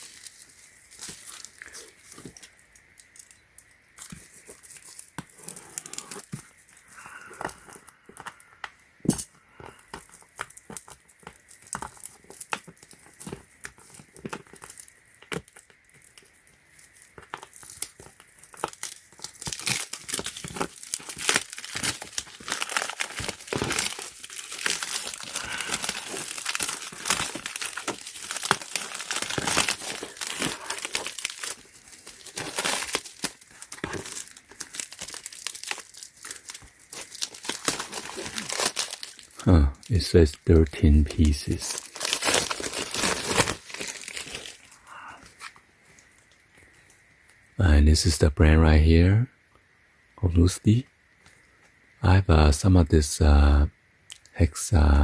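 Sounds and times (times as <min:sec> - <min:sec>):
packaging crackling and tearing: 0:00.0 - 0:08.4, 0:09.1 - 0:46.4.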